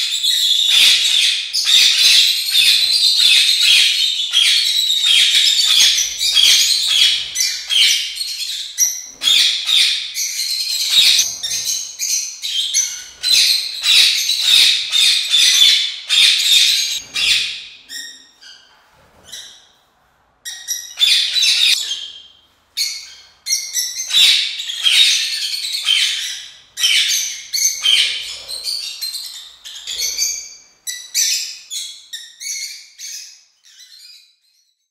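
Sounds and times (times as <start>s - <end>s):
lovebirds chirping and squawking: 0.0s - 34.9s.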